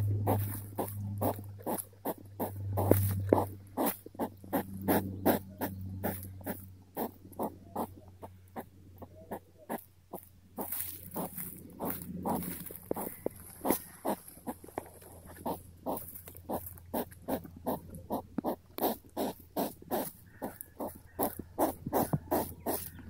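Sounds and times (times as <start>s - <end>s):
hedgehog sniffing: 0.0s - 23.0s.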